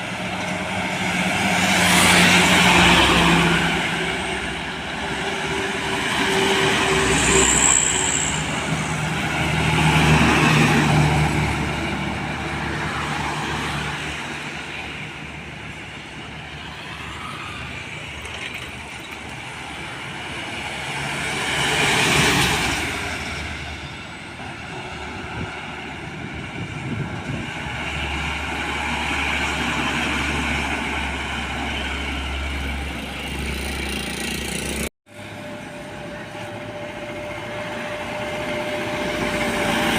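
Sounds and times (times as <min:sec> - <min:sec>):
trucks passing by: 0:00.0 - 0:39.9.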